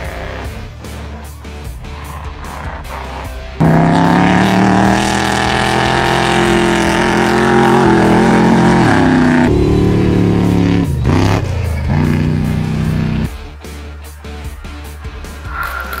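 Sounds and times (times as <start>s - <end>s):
truck engine at high revs: 0.0s - 13.8s.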